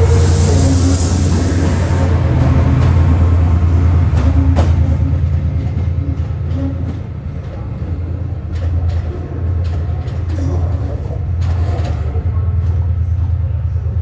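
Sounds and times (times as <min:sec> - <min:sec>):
diesel locomotive engine throbbing: 0:00.0 - 0:14.0.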